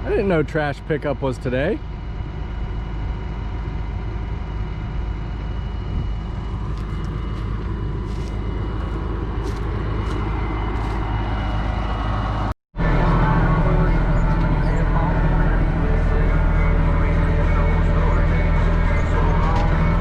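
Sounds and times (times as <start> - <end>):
large diesel engine running: 0.0 - 20.0.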